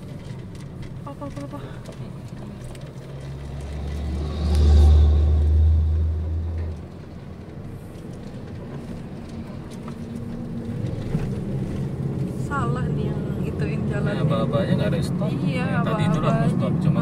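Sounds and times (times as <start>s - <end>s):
loud deep vehicle rumble: 0.0s - 17.0s
steady vehicle noise: 0.0s - 17.0s.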